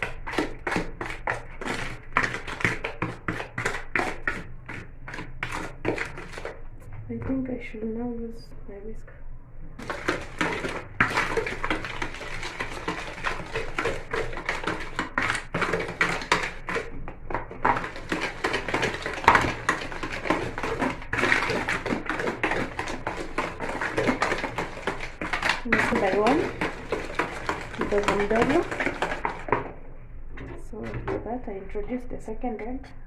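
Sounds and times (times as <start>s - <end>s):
hand whisk clattering in bowl: 0.0s - 6.7s, 9.8s - 29.8s.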